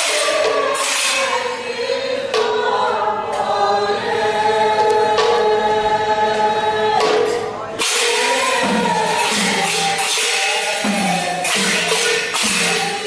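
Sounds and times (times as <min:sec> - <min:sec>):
group singing a devotional chant: 0:00.0 - 0:13.0.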